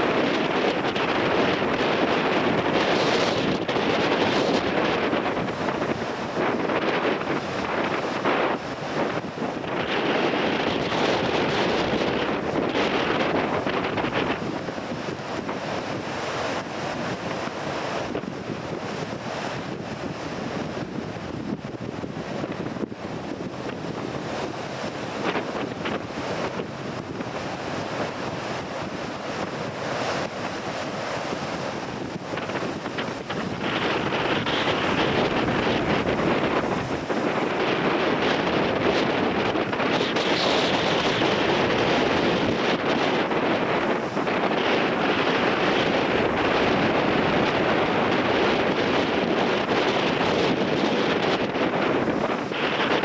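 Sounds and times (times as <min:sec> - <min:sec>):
wind buffeting microphone: 0:00.0 - 0:53.0
waves breaking on rocks: 0:00.1 - 0:53.0.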